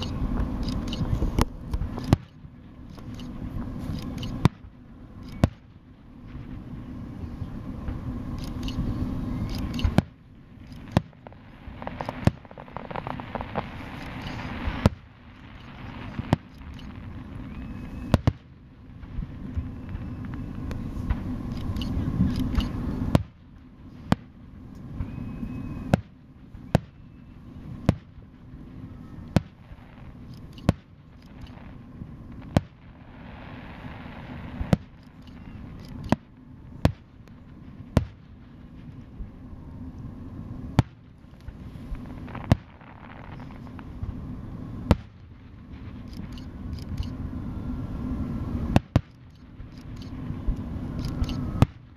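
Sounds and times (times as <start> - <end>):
fireworks booming: 0.0 - 51.9
low rumble: 0.0 - 51.9.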